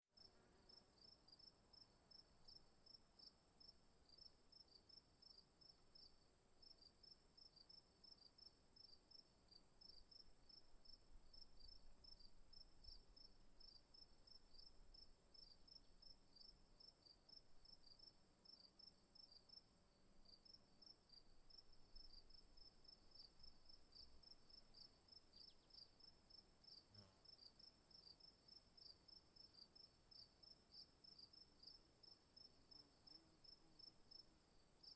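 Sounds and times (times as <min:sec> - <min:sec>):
cricket chirping: 0:00.2 - 0:34.9.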